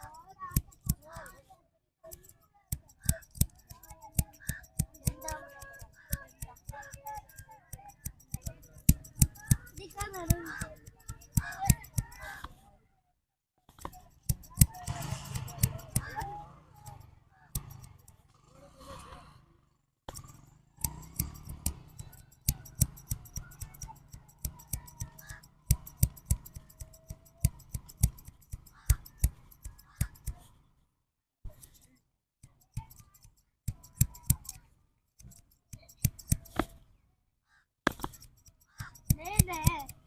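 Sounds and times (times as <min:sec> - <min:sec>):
scissors snipping hair: 0:00.0 - 0:01.4, 0:02.1 - 0:12.5, 0:13.8 - 0:18.2, 0:20.1 - 0:30.5, 0:31.6 - 0:34.6, 0:35.2 - 0:36.8, 0:37.9 - 0:40.0.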